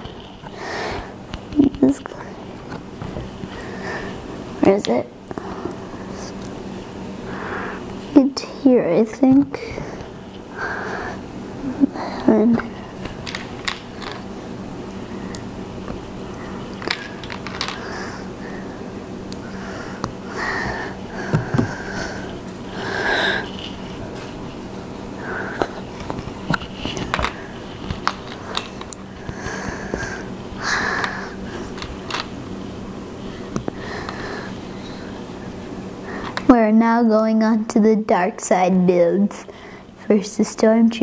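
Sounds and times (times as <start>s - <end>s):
low hum: 0.0s - 37.1s.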